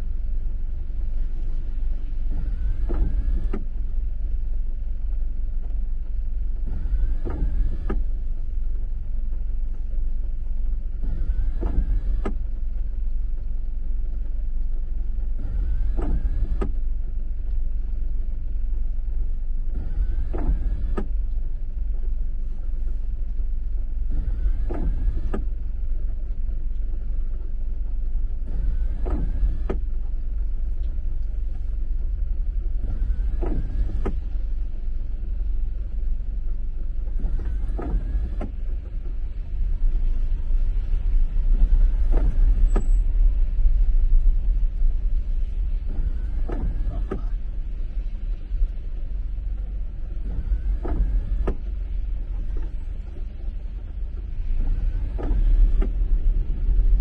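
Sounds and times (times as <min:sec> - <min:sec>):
car engine idling: 0:00.0 - 0:57.0
windshield wiper motor whirring: 0:00.0 - 0:57.0.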